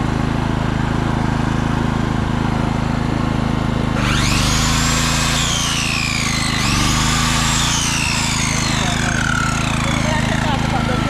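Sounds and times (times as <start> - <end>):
generator engine running: 0.0 - 11.0
power tool whine: 0.0 - 11.0.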